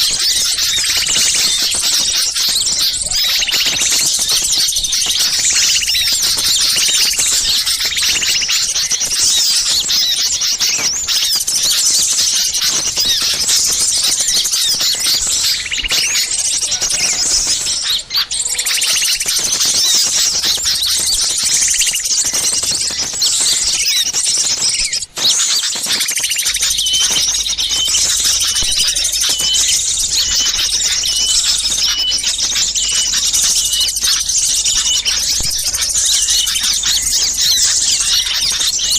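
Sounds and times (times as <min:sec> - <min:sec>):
songbirds chirping in chorus: 0:00.0 - 0:38.9.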